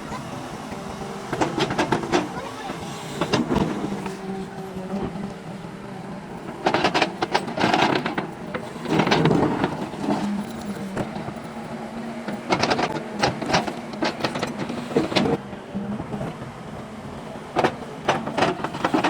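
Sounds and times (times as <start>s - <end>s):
diesel engine running: 0.0s - 19.0s
machine clanking and scraping: 0.1s - 15.4s, 17.5s - 19.0s.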